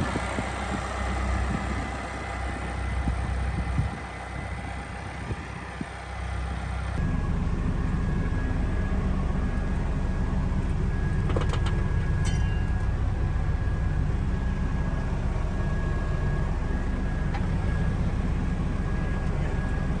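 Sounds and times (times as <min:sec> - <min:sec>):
diesel engine running: 0:00.0 - 0:20.0
thin steady whine: 0:00.0 - 0:20.0.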